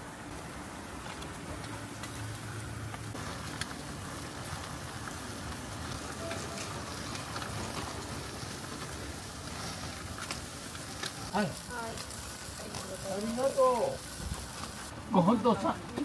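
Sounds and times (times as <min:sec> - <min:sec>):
meat skewers sizzling on a grill: 0:00.0 - 0:15.7
faint crackles: 0:00.0 - 0:16.0.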